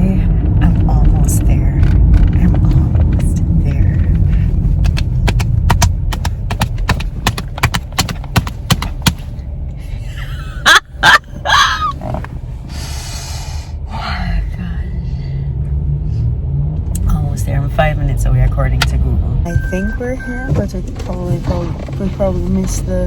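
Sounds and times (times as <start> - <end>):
road rumble inside car: 0.0 - 23.0.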